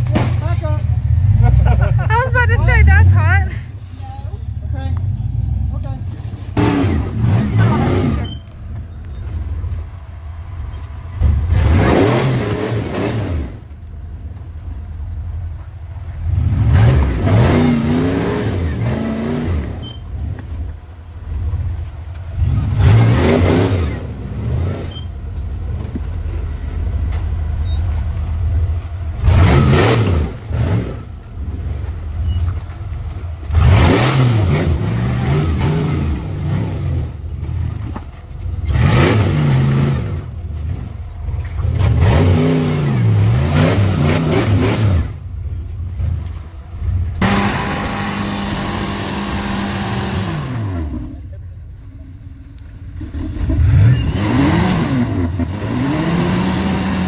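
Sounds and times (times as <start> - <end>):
off-road vehicle engine revving: 0.0 - 14.4, 15.1 - 57.0.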